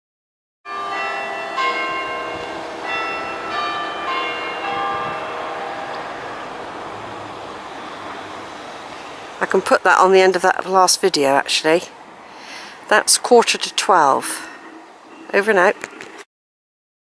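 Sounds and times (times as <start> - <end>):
church bells ringing: 0.7 - 14.6.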